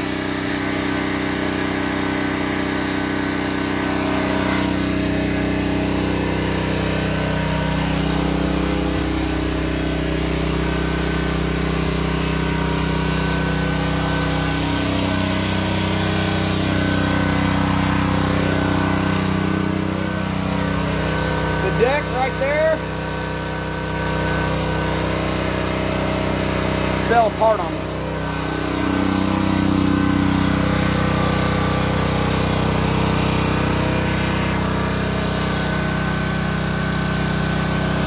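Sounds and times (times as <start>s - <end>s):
pressure washer engine running: 0.0s - 38.0s.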